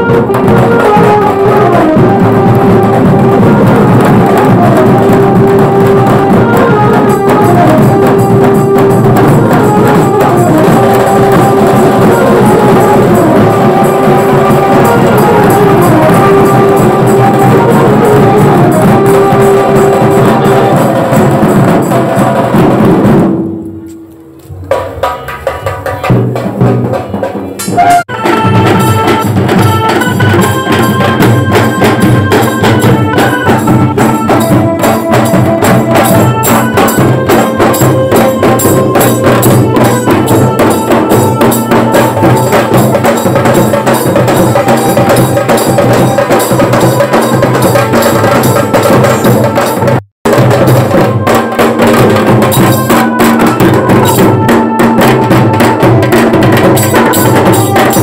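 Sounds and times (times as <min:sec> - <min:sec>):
held melody line: 0:00.0 - 0:22.5, 0:27.7 - 0:58.0
driving drums: 0:00.0 - 0:58.0.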